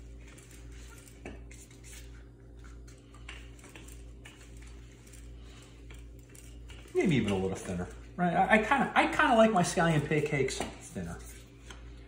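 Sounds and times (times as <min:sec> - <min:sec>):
rolling pin rolling dough: 0:00.0 - 0:12.0
steady low hum: 0:00.0 - 0:12.0.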